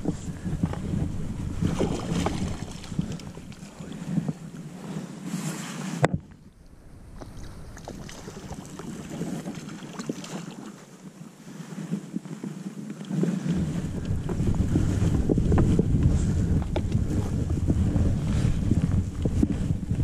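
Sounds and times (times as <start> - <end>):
wind buffeting microphone: 0.0 - 11.2, 12.0 - 20.0.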